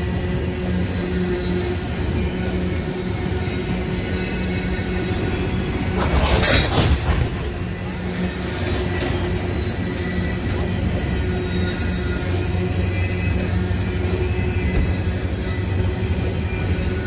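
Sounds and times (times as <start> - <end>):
diesel freight train running: 0.0 - 17.0.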